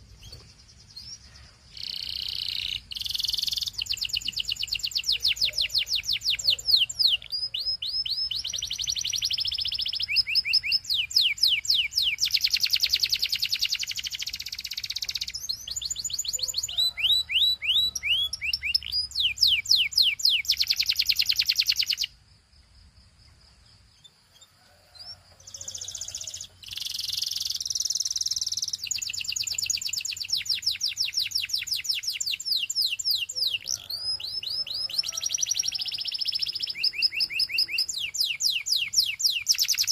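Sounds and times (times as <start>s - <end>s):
canary singing trills: 0.0s - 22.2s, 23.5s - 39.9s.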